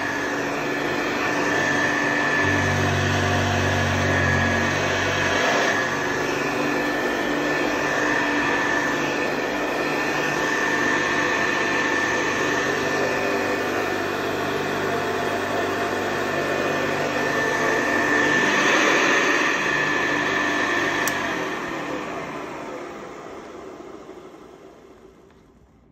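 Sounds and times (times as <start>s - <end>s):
vacuum cleaner running: 0.0s - 25.9s.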